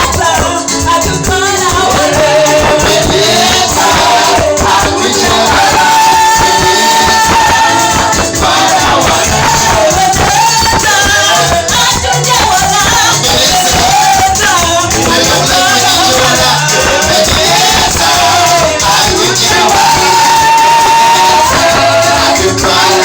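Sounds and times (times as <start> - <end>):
band with dense percussion: 0.0 - 23.0
person singing: 0.0 - 23.0.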